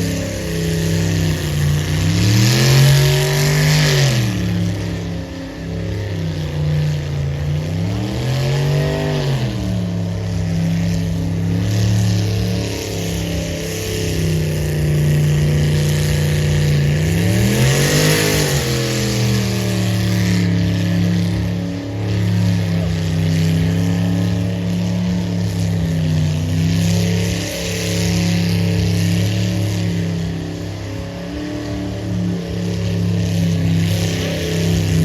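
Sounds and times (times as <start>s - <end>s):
truck engine idling and revving: 0.0s - 35.0s.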